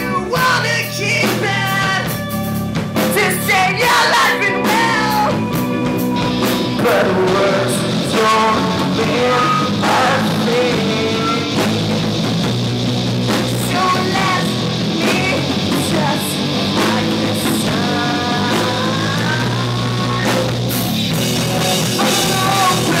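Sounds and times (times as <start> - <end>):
drum kit: 0.0 - 23.0
electric guitar with pitch bends: 0.0 - 23.0.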